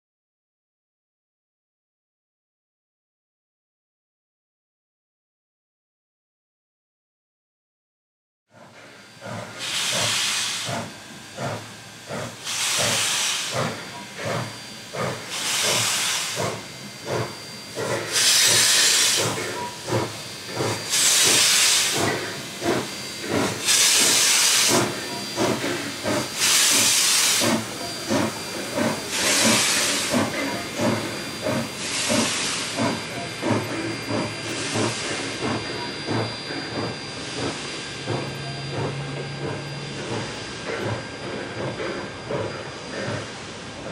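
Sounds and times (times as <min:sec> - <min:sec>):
steam locomotive hissing bursts: 0:08.6 - 0:43.9.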